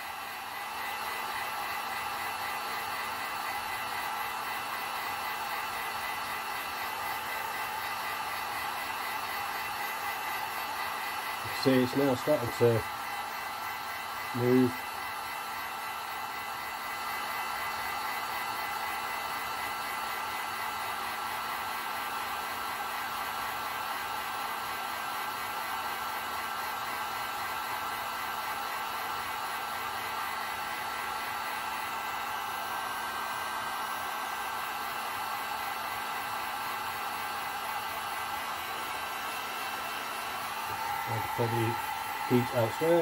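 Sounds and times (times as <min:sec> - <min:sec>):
heat gun blowing air: 0:00.0 - 0:43.0.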